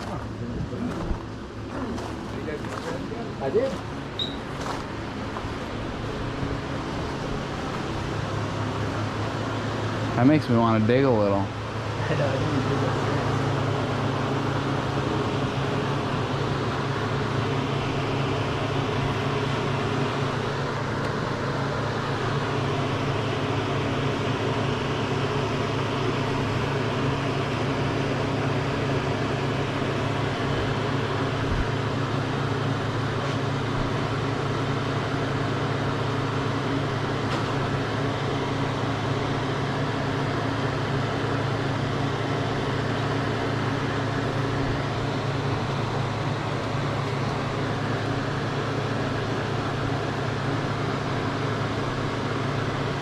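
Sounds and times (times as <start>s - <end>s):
car engine drone: 0.0s - 53.0s
road noise: 0.0s - 53.0s.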